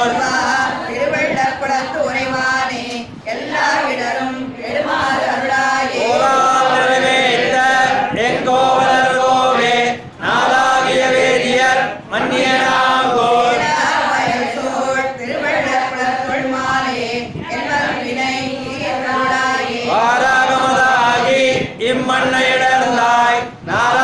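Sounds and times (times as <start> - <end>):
group chanting hymns in unison: 0.0 - 24.0.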